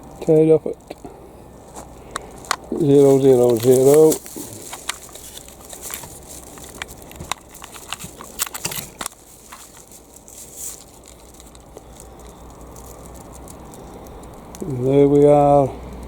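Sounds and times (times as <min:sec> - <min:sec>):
potatoes and bag clicking and rustling: 0:01.6 - 0:14.8.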